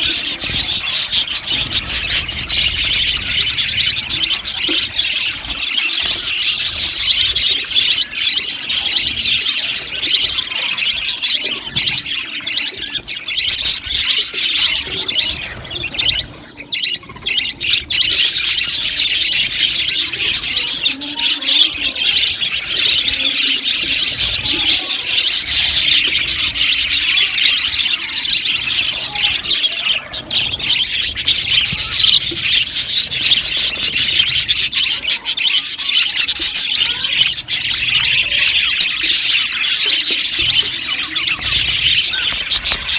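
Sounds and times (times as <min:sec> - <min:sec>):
flock of budgerigars chattering: 0:00.0 - 0:42.9.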